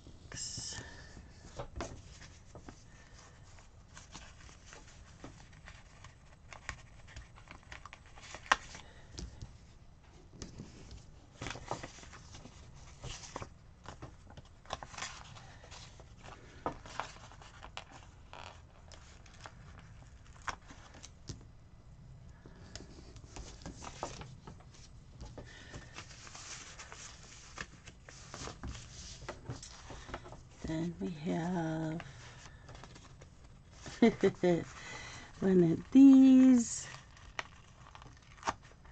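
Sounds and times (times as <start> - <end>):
paper rustling and crinkling: 0.8 - 21.5, 22.3 - 38.9.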